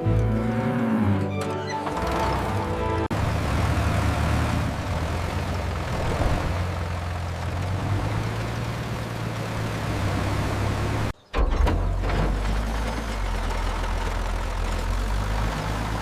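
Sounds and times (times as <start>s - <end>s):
tractor engine running: 1.1s - 16.0s.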